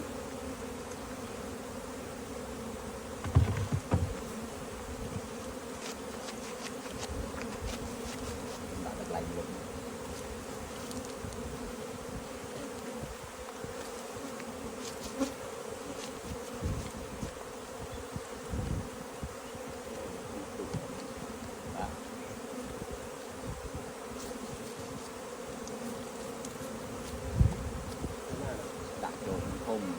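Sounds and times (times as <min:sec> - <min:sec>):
honeybees buzzing: 0:00.0 - 0:29.9.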